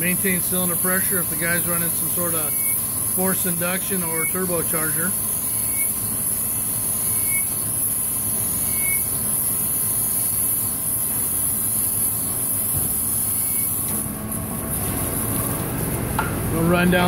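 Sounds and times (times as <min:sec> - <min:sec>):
high grinding hiss: 0:00.0 - 0:17.0
machine rumble: 0:00.0 - 0:17.0.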